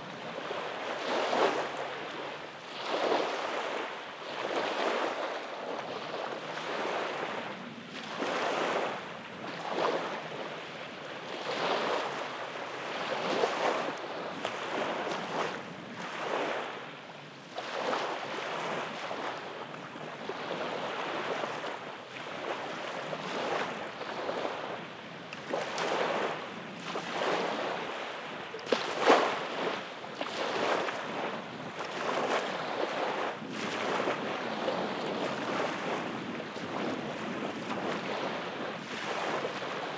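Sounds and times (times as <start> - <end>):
waves lapping on sandy beach: 0.0 - 39.9.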